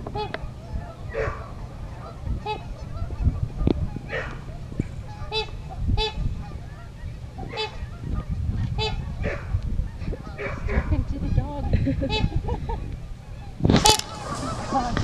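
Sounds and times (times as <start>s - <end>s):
geese honking: 0.0s - 15.0s
steady low rumble: 0.0s - 15.0s.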